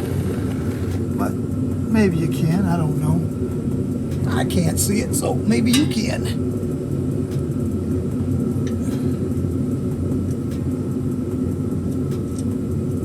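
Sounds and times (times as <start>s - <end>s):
low rumbling hum: 0.0s - 13.0s.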